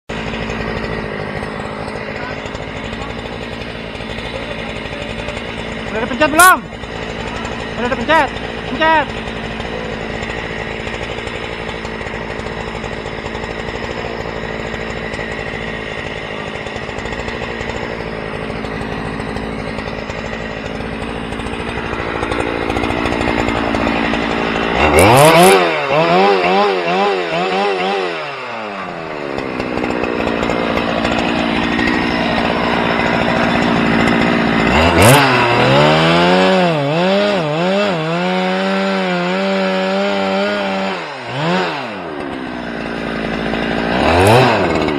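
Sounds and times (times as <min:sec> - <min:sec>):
small engine speeding up: 0:00.1 - 0:44.9.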